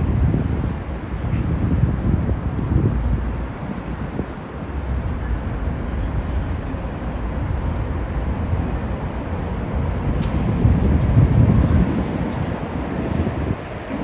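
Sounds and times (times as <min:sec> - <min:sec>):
cars and buses passing: 0:00.0 - 0:14.0.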